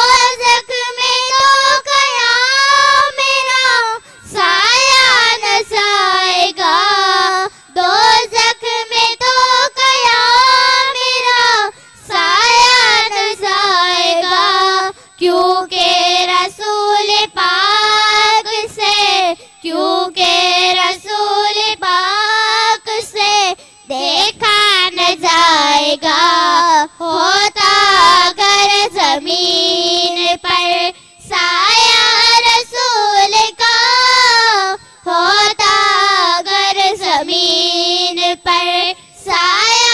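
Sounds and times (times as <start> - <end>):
girls singing unaccompanied: 0.0 - 39.9.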